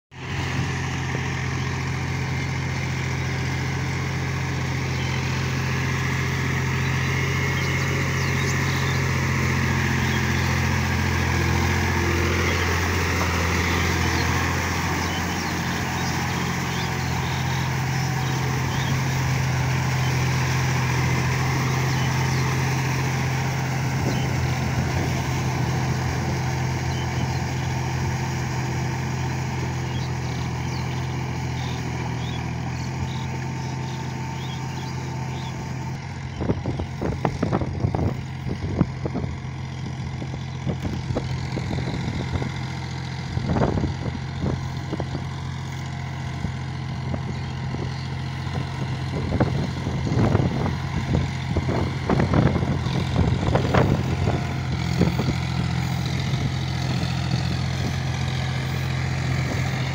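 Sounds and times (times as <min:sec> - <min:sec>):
tractor diesel engine under load: 0:00.1 - 0:59.9.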